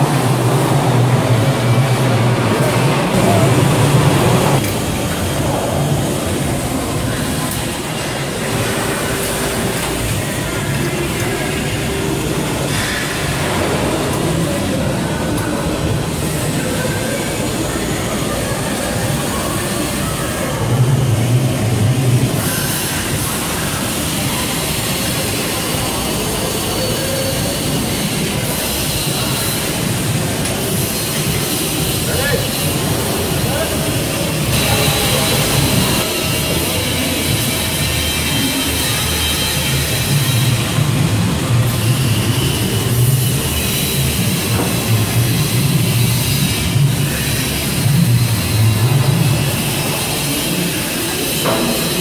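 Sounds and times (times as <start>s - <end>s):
industrial machinery rumble and hiss: 0.0s - 52.0s.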